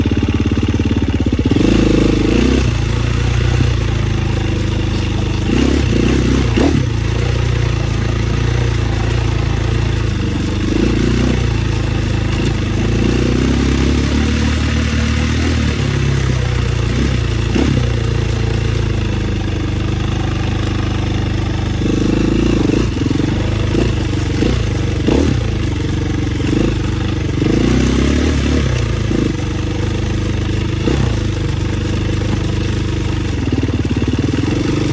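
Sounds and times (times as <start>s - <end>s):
dirt bike engine running: 0.0s - 34.9s
knocks and clatter from bike: 0.0s - 34.9s.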